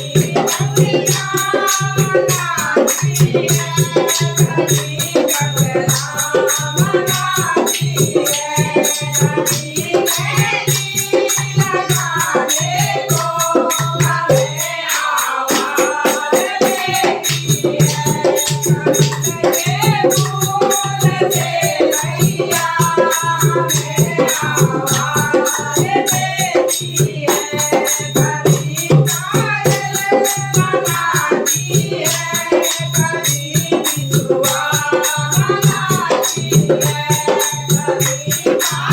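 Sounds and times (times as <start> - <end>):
rattling hand percussion: 0.0 - 38.9.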